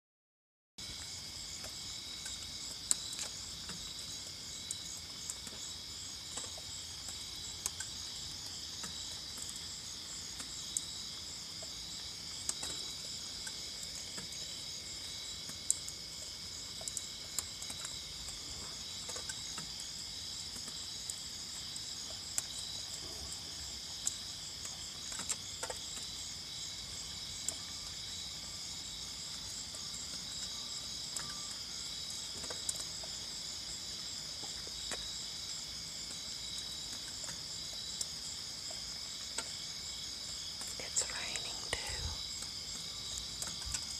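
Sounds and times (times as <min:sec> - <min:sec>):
crickets and katydids trilling: 0:00.8 - 0:43.9.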